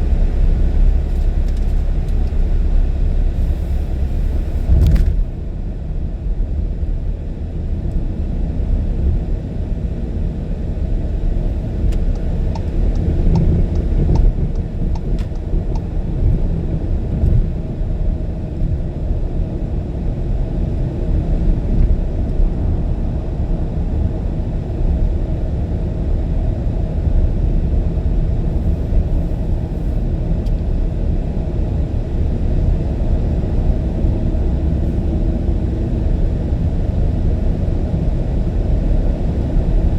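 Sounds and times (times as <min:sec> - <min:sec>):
car driving at speed: 0:00.0 - 0:39.9.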